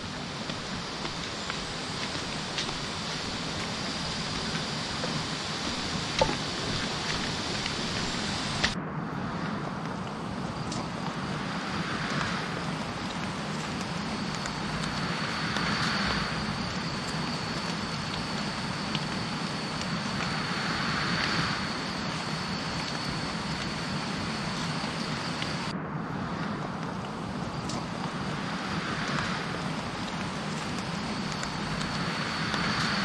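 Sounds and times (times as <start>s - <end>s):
high-pitched insect drone: 0.0s - 8.8s, 10.3s - 33.0s
steady hiss: 0.0s - 33.0s.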